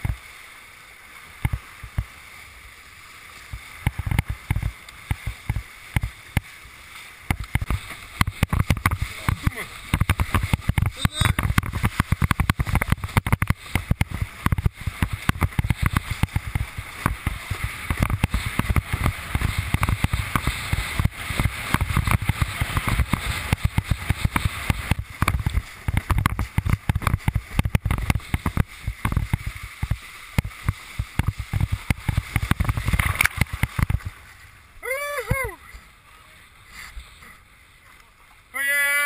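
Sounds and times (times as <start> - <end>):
water rushing along board hull: 0.0 - 39.0.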